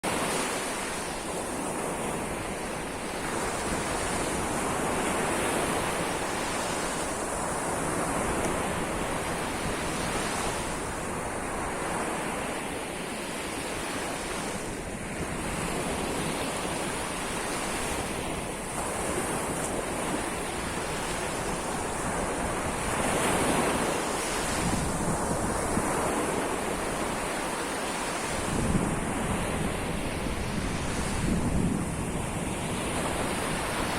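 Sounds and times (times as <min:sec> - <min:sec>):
sea waves washing onto shore: 0:00.0 - 0:33.9
wind rumbling on microphone: 0:00.0 - 0:33.9.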